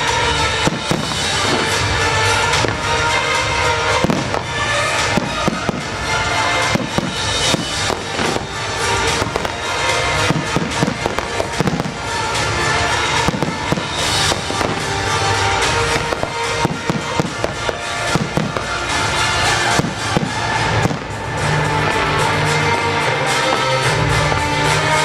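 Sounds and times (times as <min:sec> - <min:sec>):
fireworks bangs and crackles: 0:00.0 - 0:25.0
loud music over loudspeakers: 0:00.0 - 0:25.0.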